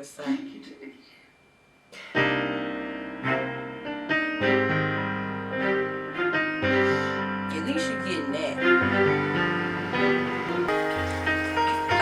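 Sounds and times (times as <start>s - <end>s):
piano playing slow chords: 2.2s - 12.0s.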